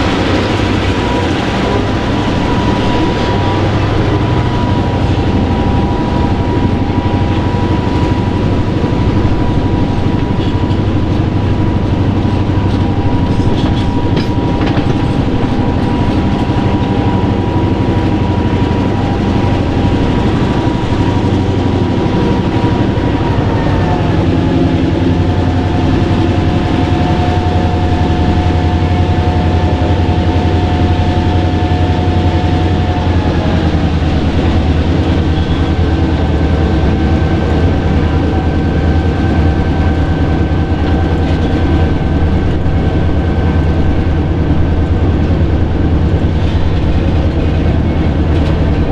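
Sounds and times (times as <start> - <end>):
diesel train rumble: 0.0 - 48.9
thin whine: 0.0 - 48.9.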